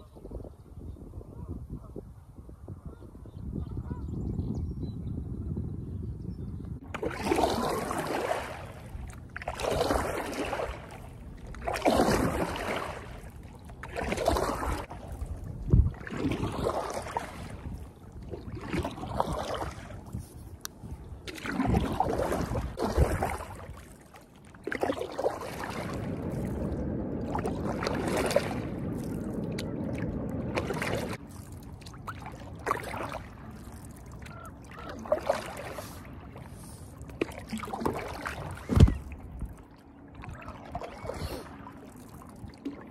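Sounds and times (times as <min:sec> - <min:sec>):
paddle strokes swishing through water: 0:06.8 - 0:42.9.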